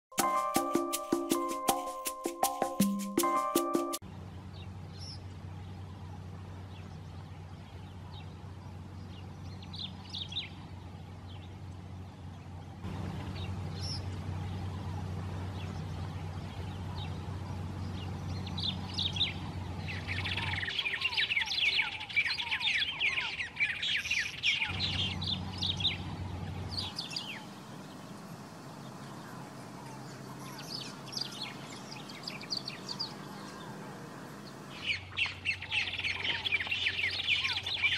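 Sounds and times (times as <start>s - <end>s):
birds calling and chattering: 3.5s - 37.9s.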